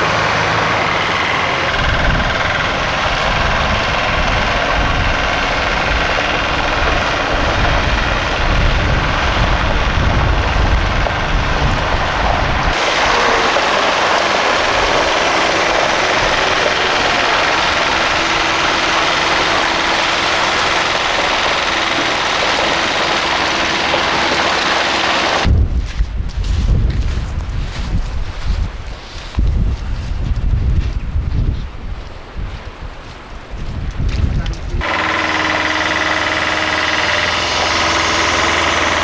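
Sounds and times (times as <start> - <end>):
heavy vehicle engine running: 0.0 - 30.8, 33.8 - 39.0.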